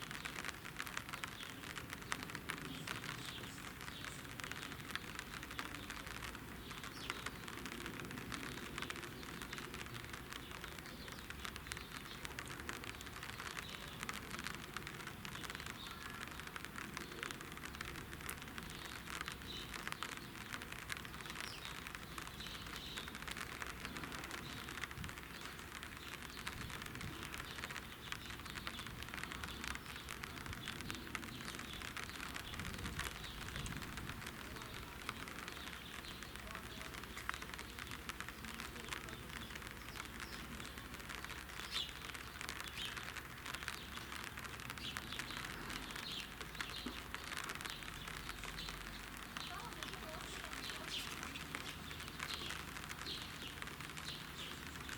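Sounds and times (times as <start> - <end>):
steady crackling hiss: 0.0 - 54.9.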